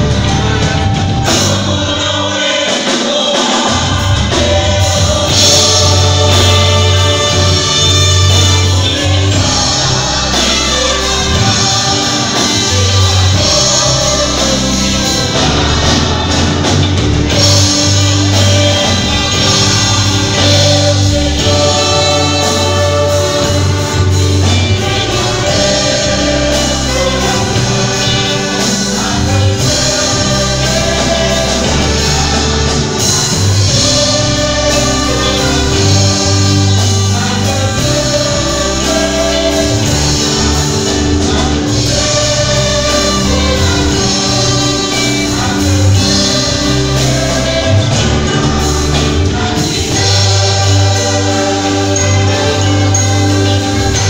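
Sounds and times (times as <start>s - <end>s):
choir singing a hymn: 0.0s - 54.0s
instrumental backing with bass: 0.0s - 54.0s.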